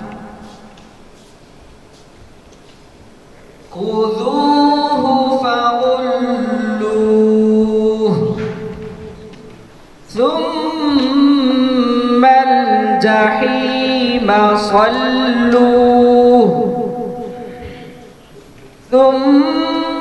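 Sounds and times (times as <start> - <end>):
person chanting recitation: 0.0 - 1.3, 3.6 - 20.0.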